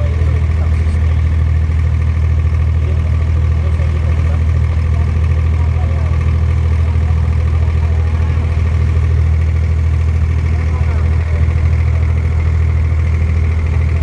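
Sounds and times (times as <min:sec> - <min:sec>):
boat diesel engine droning: 0:00.0 - 0:14.0.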